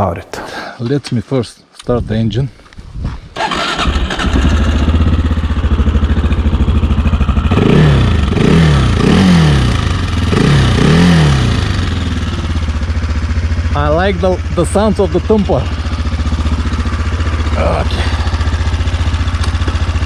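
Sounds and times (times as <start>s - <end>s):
motorcycle engine idling and revving: 3.2s - 20.0s.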